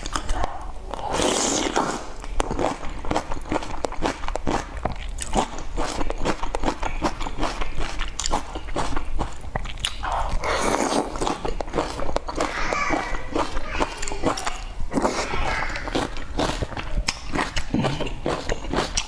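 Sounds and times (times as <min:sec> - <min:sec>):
slurping: 0:00.0 - 0:19.0
wet chewing: 0:00.0 - 0:19.0.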